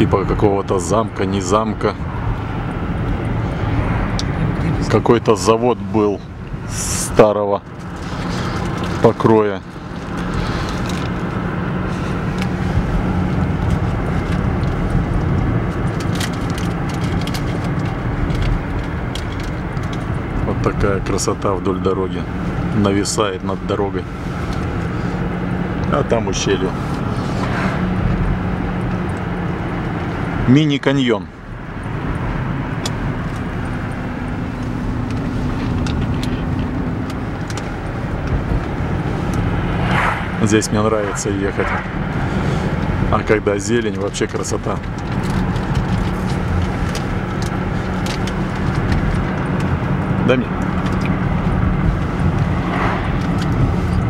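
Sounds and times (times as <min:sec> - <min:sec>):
car road noise from inside: 0:00.0 - 0:54.0.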